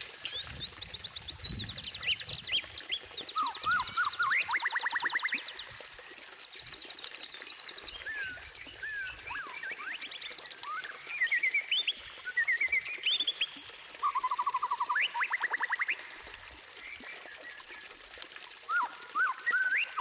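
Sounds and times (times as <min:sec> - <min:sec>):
bird singing trills and whistles: 0:00.0 - 0:05.7, 0:06.4 - 0:20.0.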